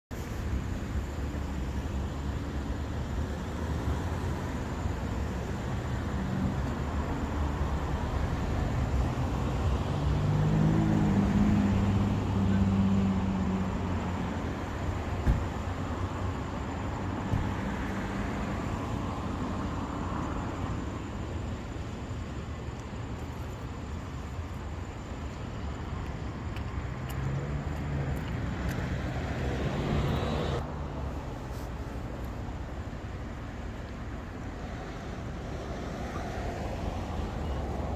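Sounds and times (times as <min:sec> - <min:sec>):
vehicle engine rumble: 0:00.1 - 0:37.9.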